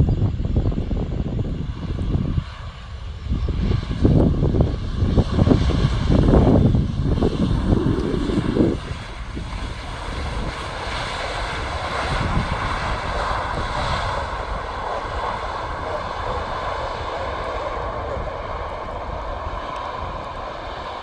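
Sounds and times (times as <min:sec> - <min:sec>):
airliner engines rushing: 0:00.0 - 0:21.0.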